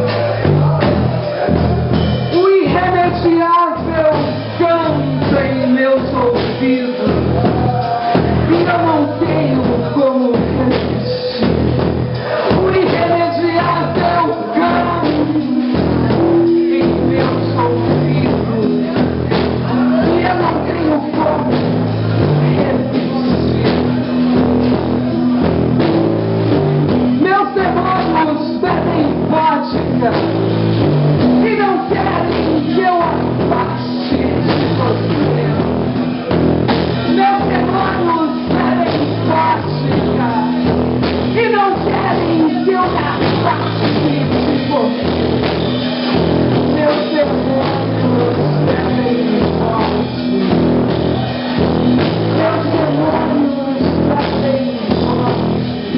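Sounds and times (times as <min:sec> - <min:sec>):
blues band playing: 0:00.0 - 0:55.9
woman singing: 0:02.3 - 0:11.8, 0:12.4 - 0:23.9, 0:27.1 - 0:30.4, 0:31.2 - 0:35.8, 0:37.0 - 0:45.2, 0:46.1 - 0:51.3, 0:51.9 - 0:55.9.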